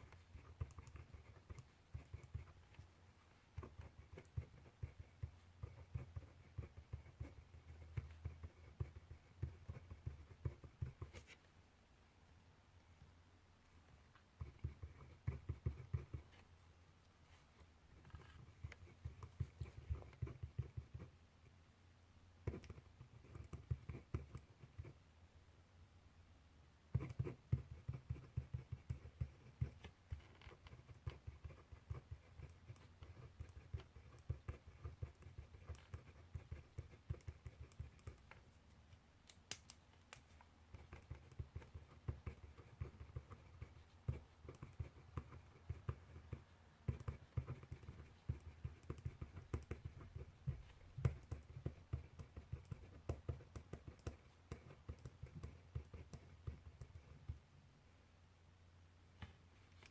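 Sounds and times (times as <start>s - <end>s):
pen scratching on paper: 0.0s - 11.4s, 14.4s - 16.5s, 17.3s - 21.2s, 22.4s - 25.0s, 26.9s - 38.5s, 40.7s - 57.4s.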